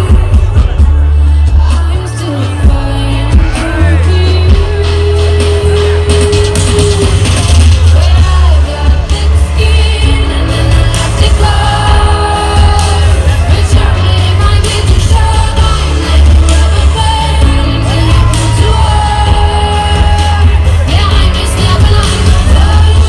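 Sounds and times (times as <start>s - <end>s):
heavy steady bass: 0.0s - 23.0s
person singing: 0.0s - 23.0s.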